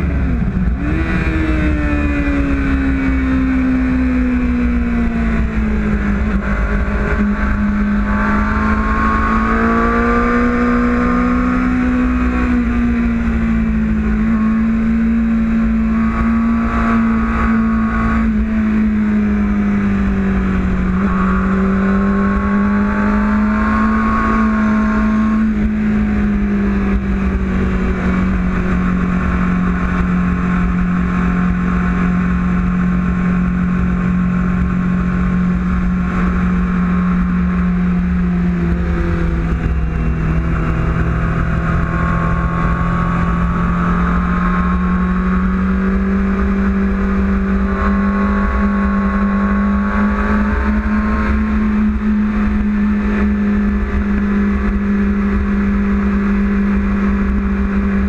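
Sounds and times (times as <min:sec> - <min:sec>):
motorcycle engine at high revs: 0:00.0 - 0:58.0
wind noise on microphone: 0:00.0 - 0:58.0.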